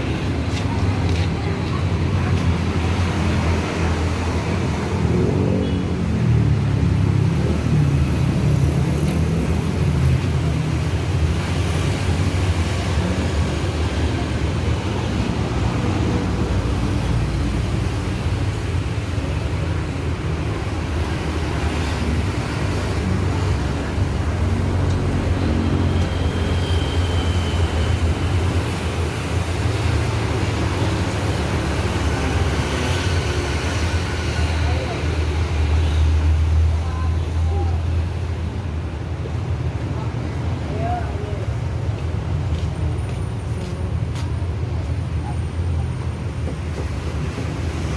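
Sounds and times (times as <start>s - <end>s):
motor vehicle rumble: 0.0s - 47.9s.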